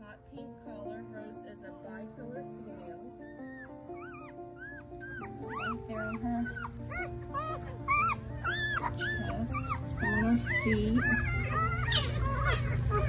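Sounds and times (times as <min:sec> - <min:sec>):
background music: 0:00.0 - 0:13.0
puppies whimpering and squealing: 0:00.6 - 0:13.0.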